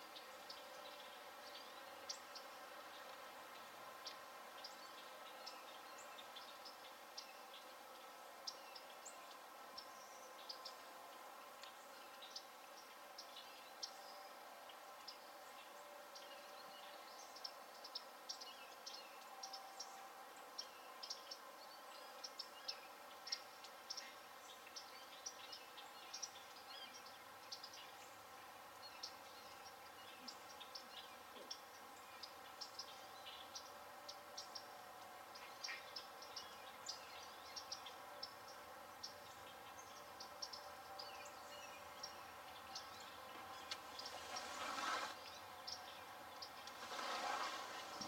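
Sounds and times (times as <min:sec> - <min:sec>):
faint steady hum: 0:00.0 - 0:48.0
small birds chirping: 0:00.0 - 0:48.0.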